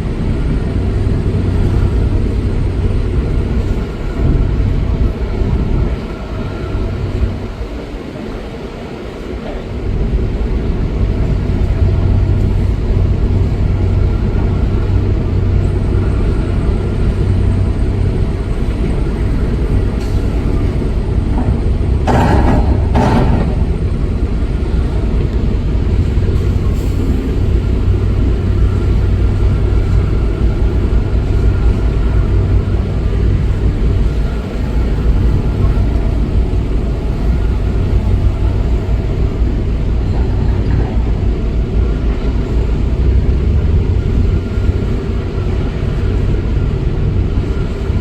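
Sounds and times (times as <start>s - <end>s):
heavy diesel engine under load: 0.0s - 48.0s.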